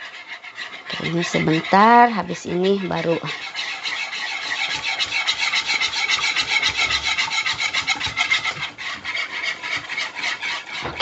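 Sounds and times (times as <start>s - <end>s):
whisk scraping a saucepan: 0.0s - 11.0s.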